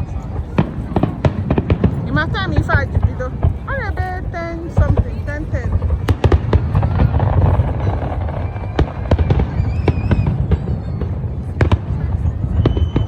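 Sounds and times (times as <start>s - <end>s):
firework bangs and crackles: 0.0s - 13.0s
firework whistling: 0.0s - 13.0s.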